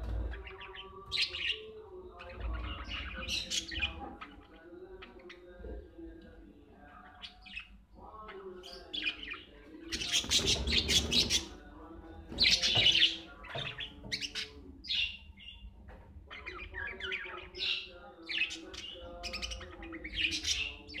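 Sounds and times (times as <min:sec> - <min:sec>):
budgerigars chirping and warbling: 0:00.0 - 0:21.0.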